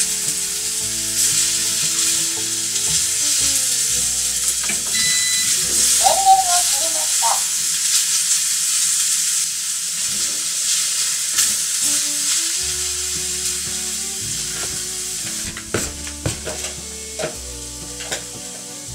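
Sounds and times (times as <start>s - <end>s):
meat sizzling in a pan: 0.0s - 18.9s.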